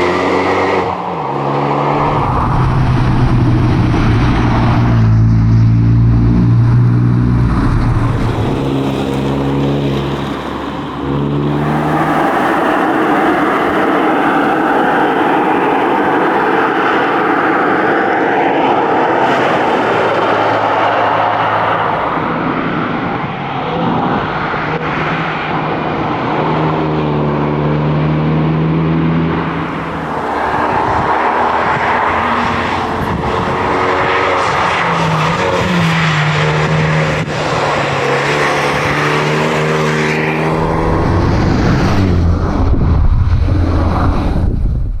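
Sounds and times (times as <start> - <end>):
car engine revving: 0.0 - 22.4, 25.9 - 44.5
road and wind noise: 0.0 - 45.0.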